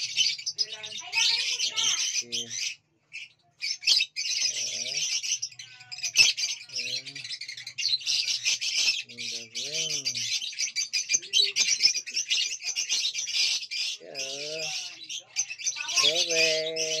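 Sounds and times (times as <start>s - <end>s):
birds chirping in a chorus: 0.0s - 17.0s
low bird calls: 0.0s - 17.0s.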